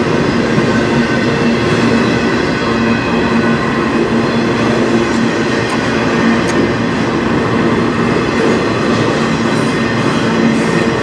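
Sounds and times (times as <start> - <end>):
steel wheels rumbling on rail: 0.0 - 11.0.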